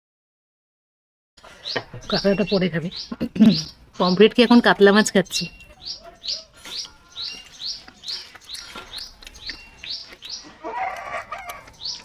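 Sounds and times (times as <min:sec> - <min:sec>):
bird rising chirp: 0:01.6 - 0:04.6, 0:05.3 - 0:12.0.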